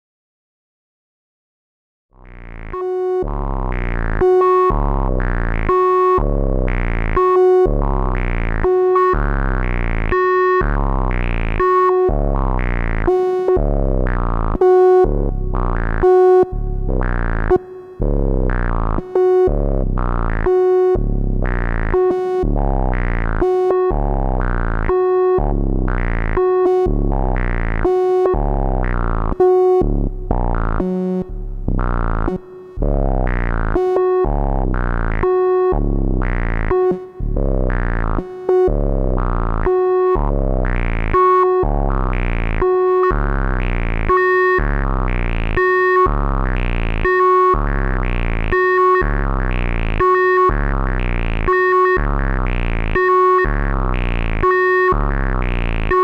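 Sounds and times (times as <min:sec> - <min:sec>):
buzzy synthesizer note repeating: 0:02.2 - 0:56.0.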